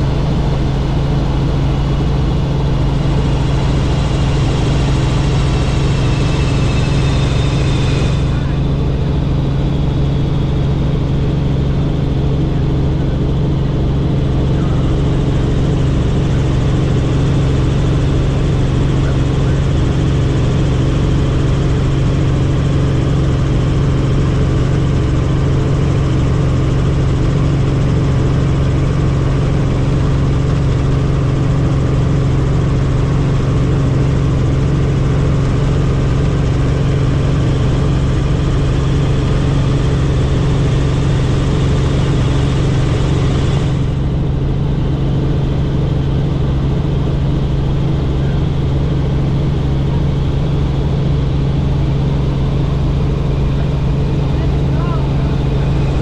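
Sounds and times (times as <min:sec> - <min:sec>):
helicopter cabin drone: 0:00.0 - 0:56.0.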